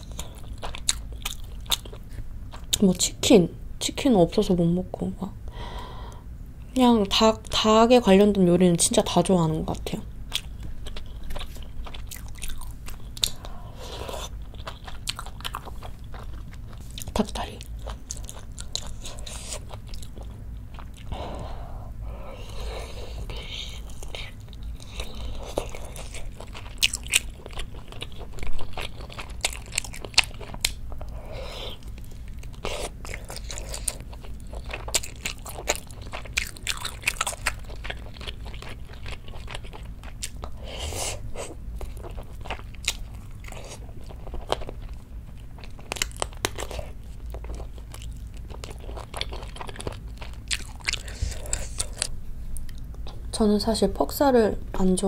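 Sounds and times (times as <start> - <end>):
chewing and biting meat: 0.0 - 2.8, 10.3 - 21.2, 22.5 - 52.9
faint low hum: 0.0 - 55.0.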